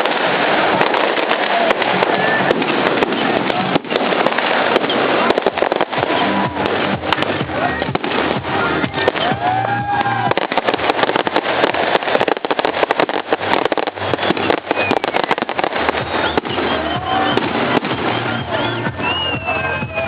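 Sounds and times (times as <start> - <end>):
firecrackers popping: 0.0 - 20.0
music playing: 0.0 - 20.0.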